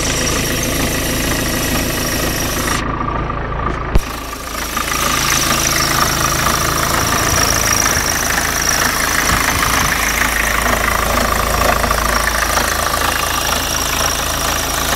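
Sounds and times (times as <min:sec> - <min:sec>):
diesel engine running: 0:00.0 - 0:14.9
strange repeating engine noise: 0:00.0 - 0:14.9.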